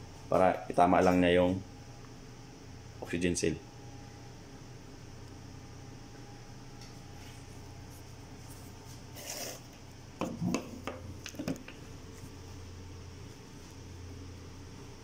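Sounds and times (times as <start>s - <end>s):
low equipment hum: 0.0s - 15.0s.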